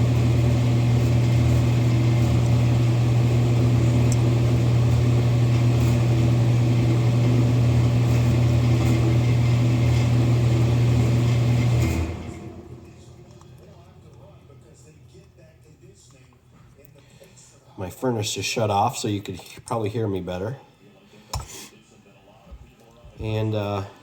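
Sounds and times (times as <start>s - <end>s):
furnace humming: 0.0s - 24.0s.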